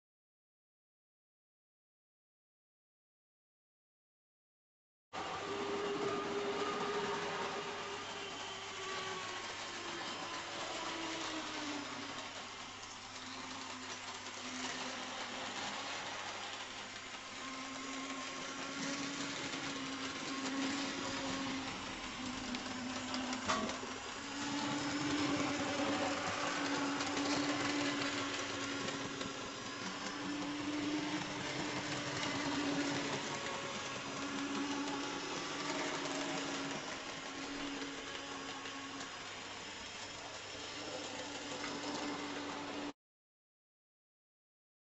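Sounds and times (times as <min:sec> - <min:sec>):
model train motor whine: 0:05.2 - 0:42.9
wheels running on track: 0:05.2 - 0:42.9.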